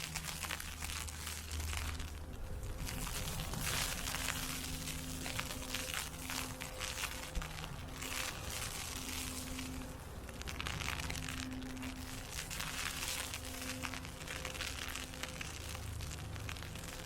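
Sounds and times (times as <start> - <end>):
faint low hum: 0.0 - 17.0
snow and ice crunching: 0.0 - 17.0.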